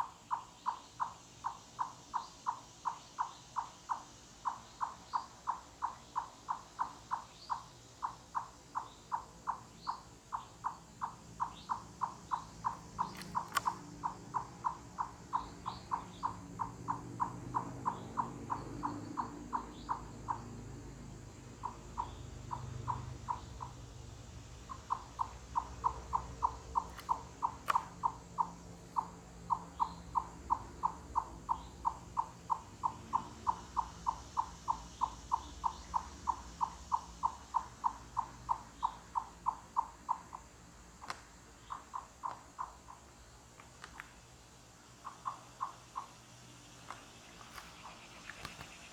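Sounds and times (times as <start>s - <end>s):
chipmunk clucking call: 0.0s - 20.5s, 21.5s - 40.7s, 41.6s - 43.2s, 44.9s - 46.4s.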